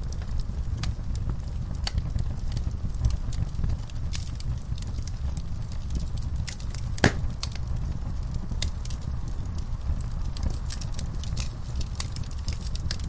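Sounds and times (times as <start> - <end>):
steady low rumble: 0.0 - 13.0
wood fire crackling: 0.0 - 13.0
sharp pops of burning wood: 0.1 - 13.0.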